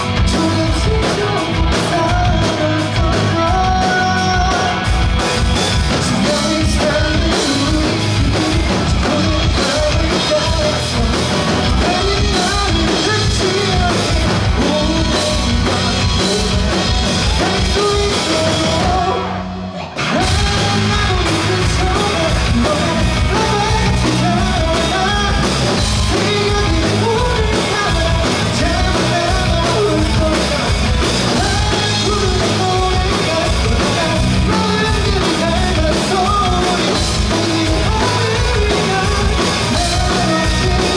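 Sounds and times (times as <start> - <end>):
live rock band with vocals: 0.0 - 40.9.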